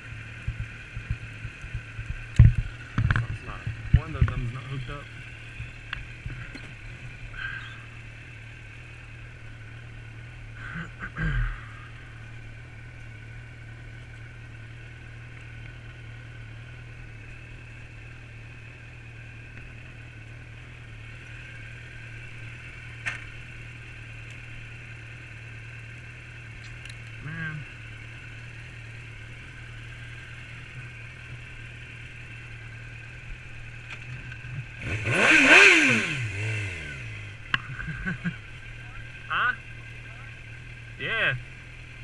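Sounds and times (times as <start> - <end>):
motorcycle engine idling: 0.0 - 42.0.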